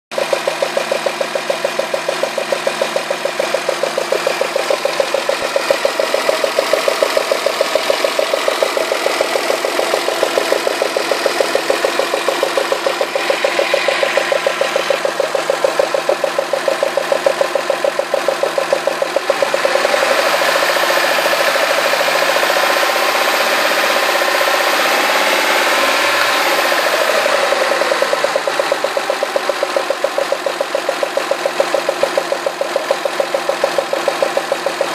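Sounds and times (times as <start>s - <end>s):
car engine clattering idle: 0.1s - 34.9s
engine revving: 0.1s - 34.9s.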